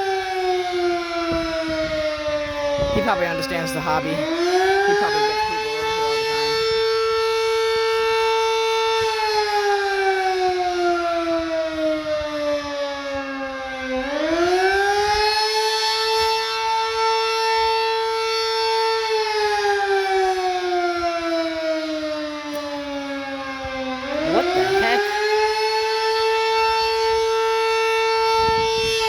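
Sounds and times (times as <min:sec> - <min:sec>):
warning siren wailing: 0:00.0 - 0:29.0.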